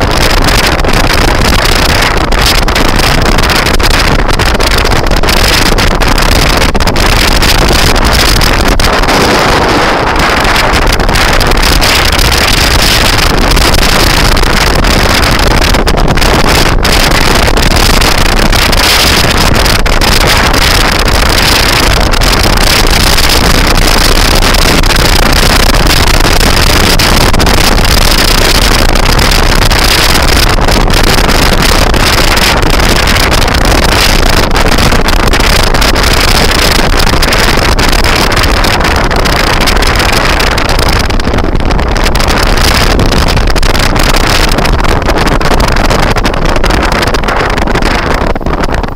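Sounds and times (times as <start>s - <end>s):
high-pitched whine: 0.0s - 48.0s
wind buffeting microphone: 0.0s - 48.9s.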